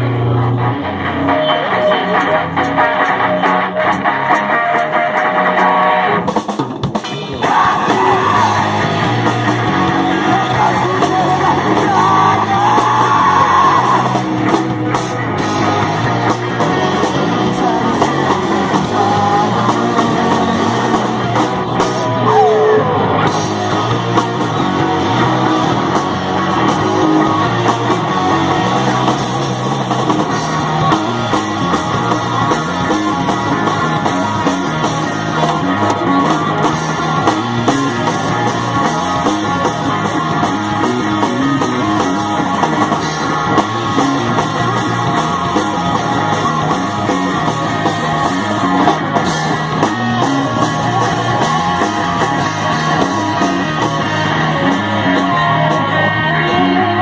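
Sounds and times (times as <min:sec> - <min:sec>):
drum kit: 0:00.0 - 0:57.0
guitar: 0:00.0 - 0:57.0
live rock band playing: 0:00.0 - 0:57.0.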